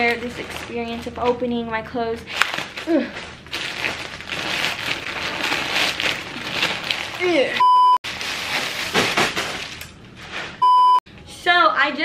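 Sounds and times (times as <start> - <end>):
plastic mailer bag crinkling: 0.0 - 1.4, 2.3 - 10.6.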